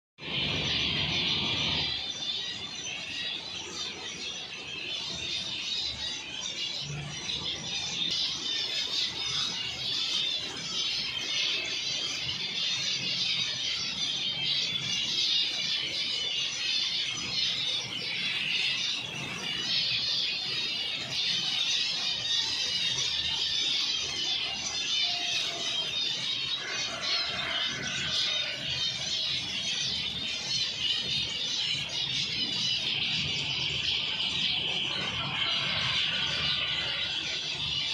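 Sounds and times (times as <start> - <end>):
finches chirping: 0.2 - 37.9.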